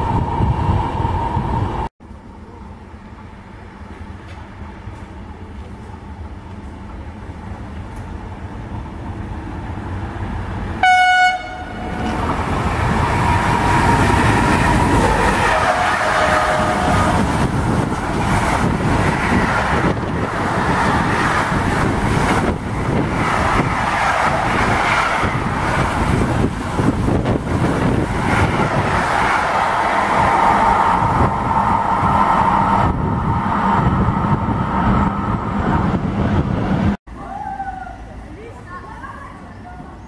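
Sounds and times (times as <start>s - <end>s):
freight train passing: 0.0s - 40.0s.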